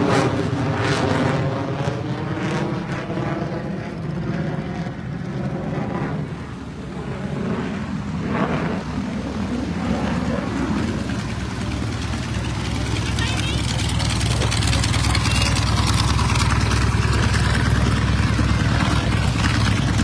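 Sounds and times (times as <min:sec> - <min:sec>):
propeller aircraft flying past: 0:00.0 - 0:20.0.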